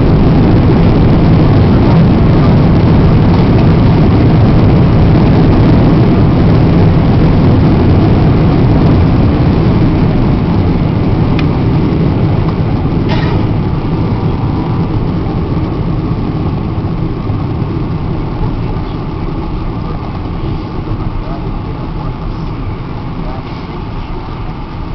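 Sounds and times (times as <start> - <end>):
airliner cabin engine rumble: 0.0 - 24.9.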